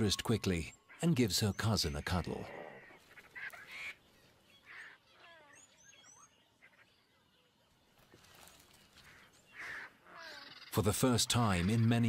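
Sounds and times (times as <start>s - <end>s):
faint bird calls and chirps: 0.0s - 12.0s
quiet bush ambience: 0.0s - 12.0s.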